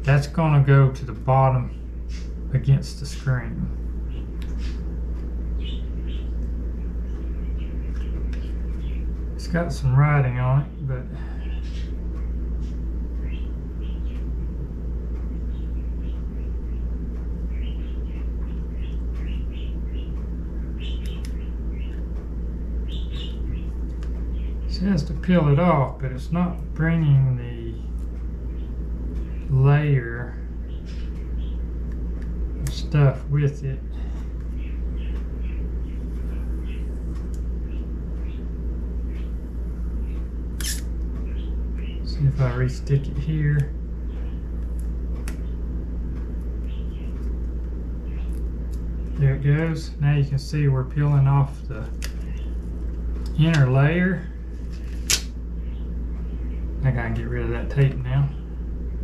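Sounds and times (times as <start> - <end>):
birds chirping: 0.0 - 59.0
steady low rumble: 0.0 - 59.0.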